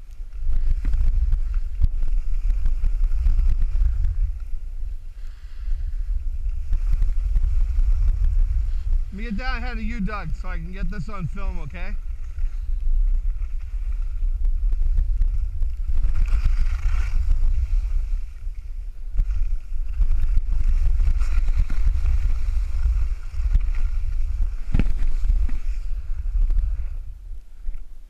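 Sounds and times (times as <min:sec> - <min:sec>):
wind rumbling on microphone: 0:00.0 - 0:28.0
skis scraping on snow: 0:00.1 - 0:27.0.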